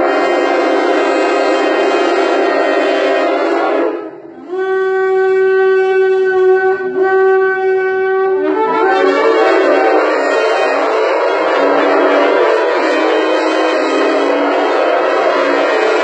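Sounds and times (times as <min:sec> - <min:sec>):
ram's horn blasts: 0:00.0 - 0:16.0.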